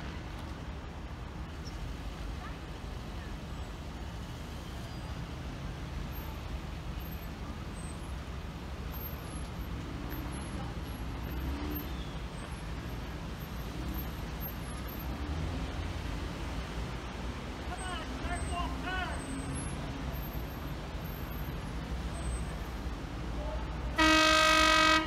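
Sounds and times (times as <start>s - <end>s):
car engines rumbling in traffic: 0.0s - 25.0s.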